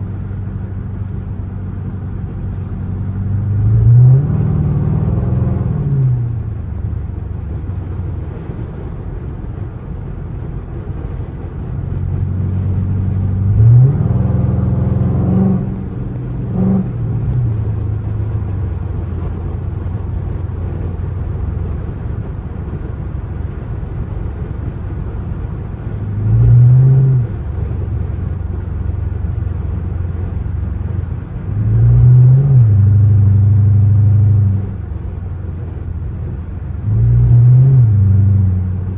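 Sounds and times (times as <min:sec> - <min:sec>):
car exhaust revving: 0:00.0 - 0:38.9.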